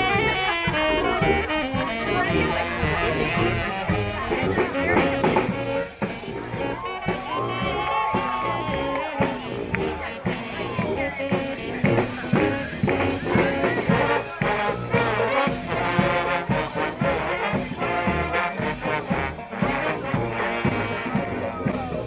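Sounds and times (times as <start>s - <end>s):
brass band horns: 0.0s - 22.0s
steady drum beat: 0.0s - 22.0s.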